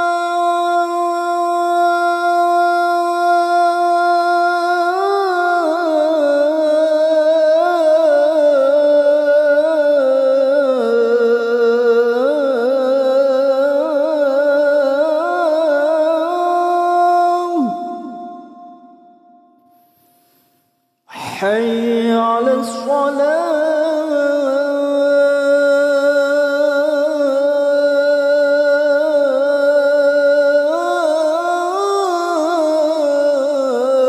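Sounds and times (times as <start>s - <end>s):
man chanting into a microphone: 0.0s - 18.9s, 21.1s - 34.0s
echo of voice: 0.0s - 20.2s, 21.1s - 34.0s.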